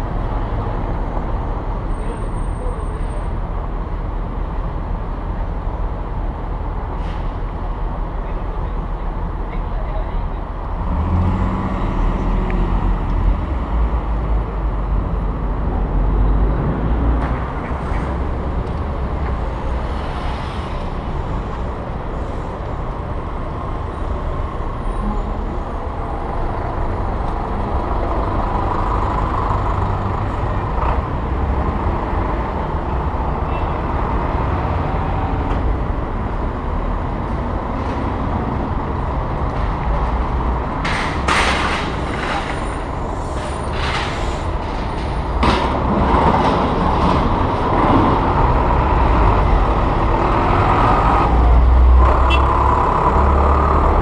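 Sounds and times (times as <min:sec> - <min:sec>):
city street traffic rumble: 0:00.0 - 0:54.0.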